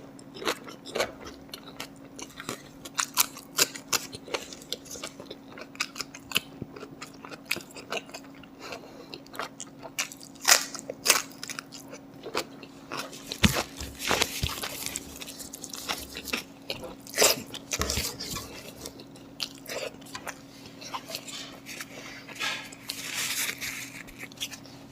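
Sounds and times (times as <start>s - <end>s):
person chewing crunchy food: 0.1s - 24.9s.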